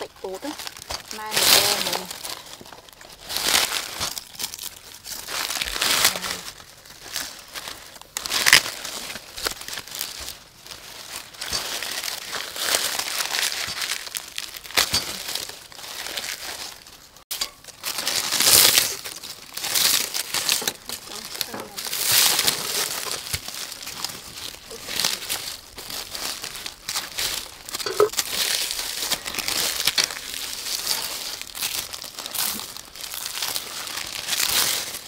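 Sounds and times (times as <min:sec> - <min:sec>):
dry corn husks tearing: 0:00.0 - 0:35.0.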